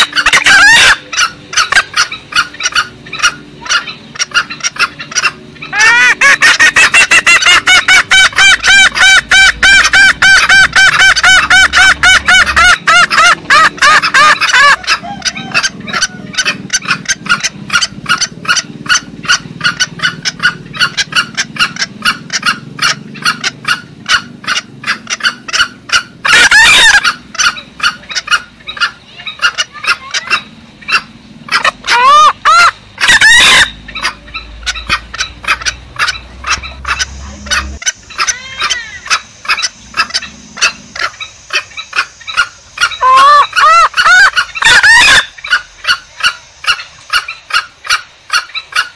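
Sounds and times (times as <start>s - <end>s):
junglefowl clucking calls: 0.0s - 48.9s
loud drawn-out bird calls: 0.0s - 48.9s.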